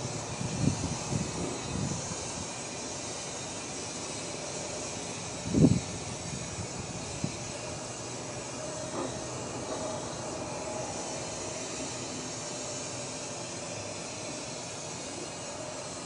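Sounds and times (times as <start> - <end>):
hand torch hissing: 0.0 - 16.0.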